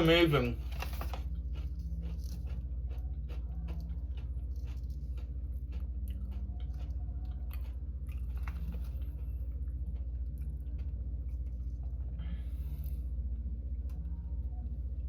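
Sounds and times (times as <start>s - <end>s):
person chewing crisp chips: 0.0s - 13.6s
steady low hum: 0.0s - 15.0s.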